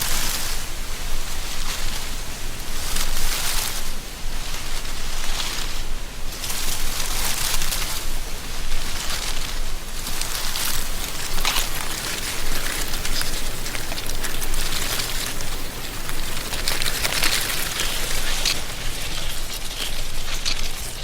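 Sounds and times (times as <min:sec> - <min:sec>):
dry leaves rustling: 0:00.0 - 0:21.0
low wind rumble: 0:00.0 - 0:21.0.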